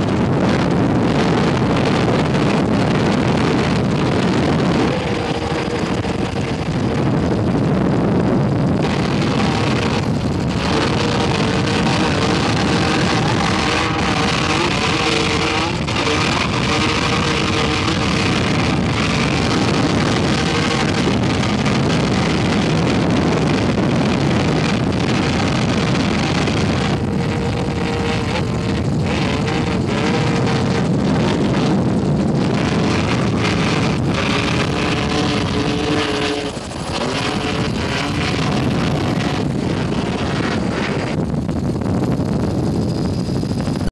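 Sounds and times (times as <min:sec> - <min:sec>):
engine tones: 0:00.0 - 0:43.9
helicopter engine and rotor: 0:00.0 - 0:43.9.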